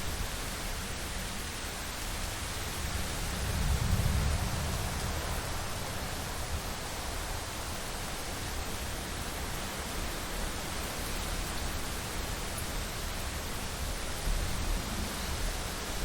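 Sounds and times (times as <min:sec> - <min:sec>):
low wind rumble: 0:00.2 - 0:10.0, 0:12.8 - 0:16.0.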